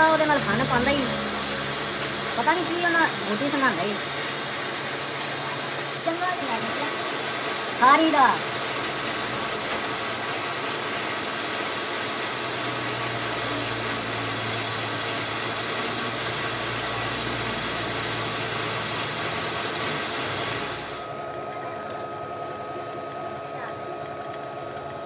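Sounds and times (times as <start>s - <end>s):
lathe humming and whirring: 0.0s - 25.0s.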